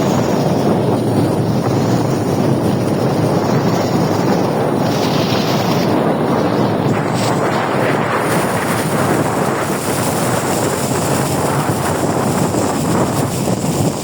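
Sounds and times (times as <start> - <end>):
boat engine running: 0.0 - 14.0
wind rush on microphone: 0.0 - 14.0.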